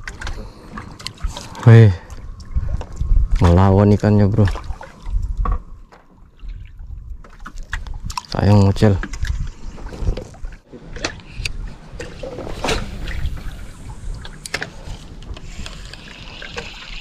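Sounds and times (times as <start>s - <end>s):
water sloshing against boat hull: 0.0s - 17.0s.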